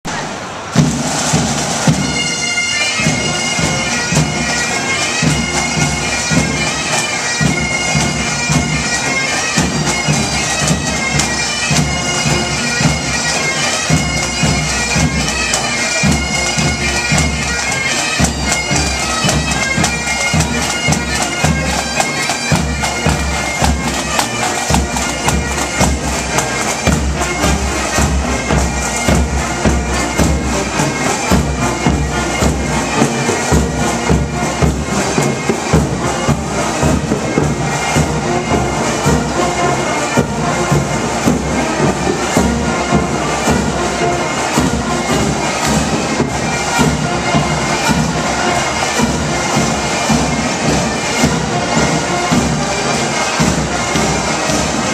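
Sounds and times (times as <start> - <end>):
bagpipe band playing march: 0.0 - 54.9
steady drumbeat: 0.1 - 54.9.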